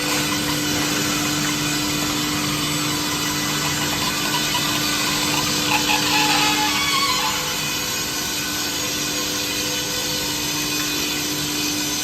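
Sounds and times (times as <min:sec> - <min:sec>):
production machine humming: 0:00.0 - 0:12.0.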